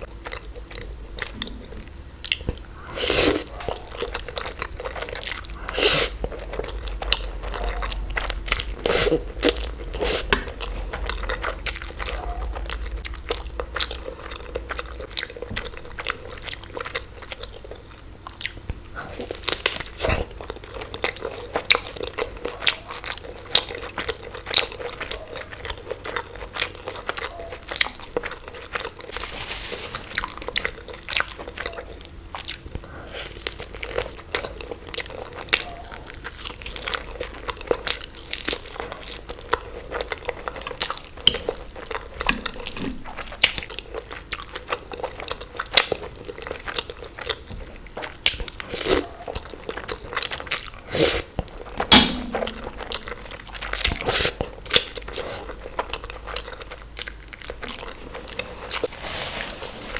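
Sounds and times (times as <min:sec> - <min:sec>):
wet chewing and crunching: 0:00.0 - 0:58.9.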